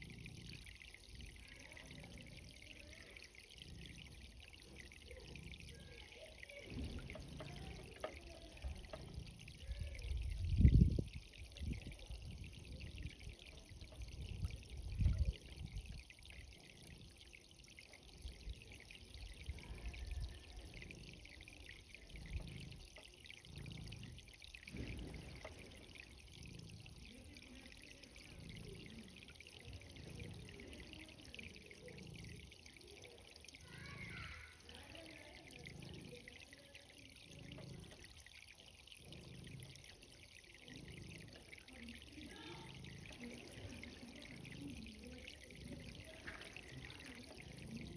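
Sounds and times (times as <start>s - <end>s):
irrigation water trickling: 0.0s - 47.9s.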